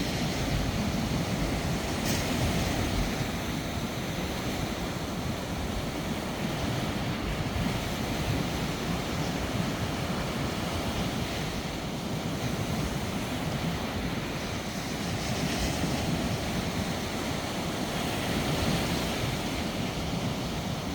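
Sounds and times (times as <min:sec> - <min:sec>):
storm wind buffeting microphone: 0:00.0 - 0:20.9.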